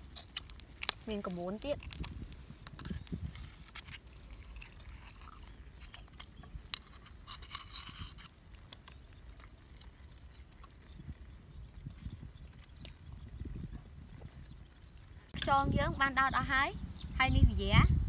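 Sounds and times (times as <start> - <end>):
bird chirping: 2.6 - 18.0.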